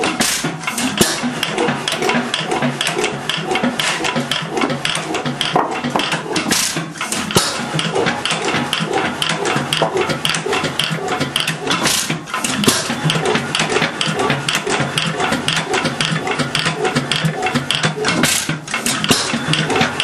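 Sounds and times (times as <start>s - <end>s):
hoist engine clattering: 0.0s - 20.0s.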